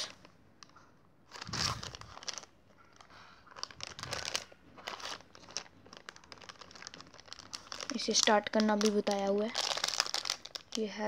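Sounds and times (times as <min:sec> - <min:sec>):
plastic foil packet crinkling: 0:01.3 - 0:11.0.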